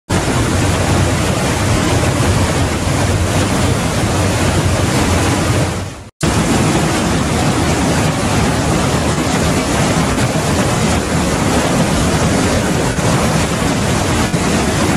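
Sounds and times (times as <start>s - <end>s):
waterfall rushing: 0.1s - 14.9s.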